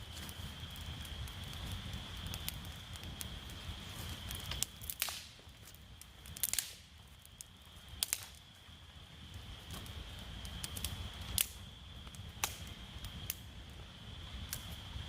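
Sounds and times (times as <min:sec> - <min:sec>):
sharp clicks and crackles: 0:00.0 - 0:08.4, 0:09.6 - 0:13.5, 0:14.5 - 0:14.8.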